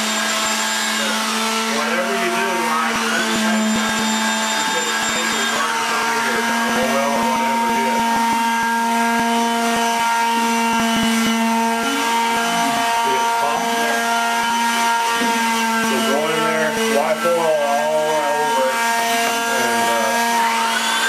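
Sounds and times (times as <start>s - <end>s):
woodworking machinery humming: 0.0s - 21.0s.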